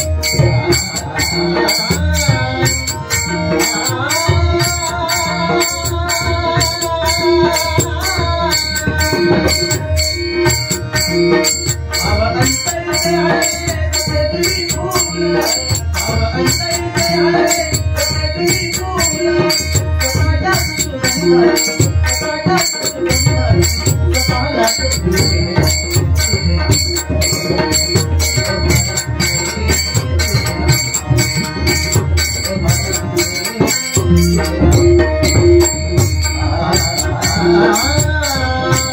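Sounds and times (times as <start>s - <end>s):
hand drums: 0.0s - 38.9s
held melody: 0.0s - 38.9s.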